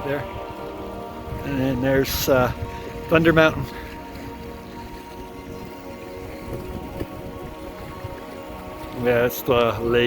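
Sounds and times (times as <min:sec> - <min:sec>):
music with held tones: 0:00.0 - 0:10.0.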